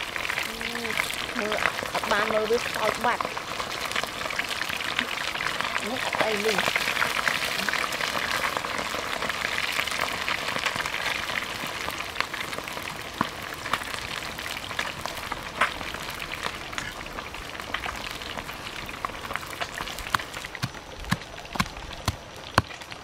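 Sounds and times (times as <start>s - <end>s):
hot oil sizzling: 0.0s - 23.0s
oil popping and crackling: 0.0s - 23.0s.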